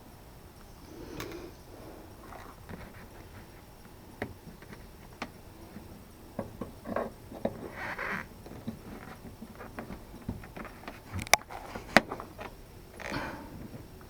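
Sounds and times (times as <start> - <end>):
clicks and rustles of handled tools: 2.2 - 14.0.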